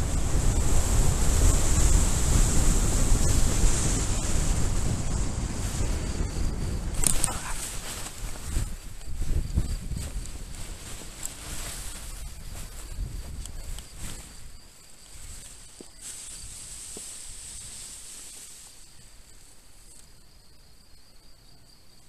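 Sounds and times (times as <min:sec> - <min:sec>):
wind buffeting microphone: 0:00.0 - 0:18.6
faint high hiss: 0:00.0 - 0:22.0.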